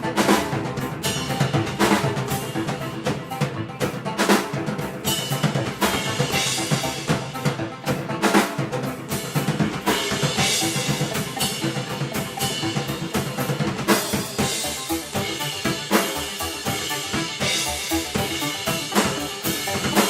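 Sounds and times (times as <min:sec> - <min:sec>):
drum kit beat: 0:00.0 - 0:20.0
live band playing: 0:00.0 - 0:20.0.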